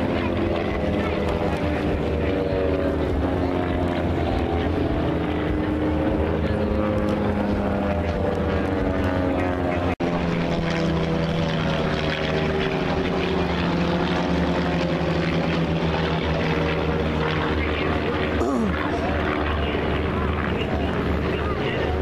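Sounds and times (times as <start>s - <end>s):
propeller airplane engines droning: 0.0s - 22.0s.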